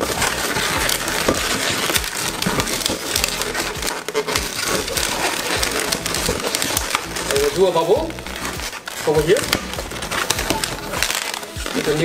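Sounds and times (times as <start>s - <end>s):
balloons squeaking and crackling: 0.0s - 12.0s.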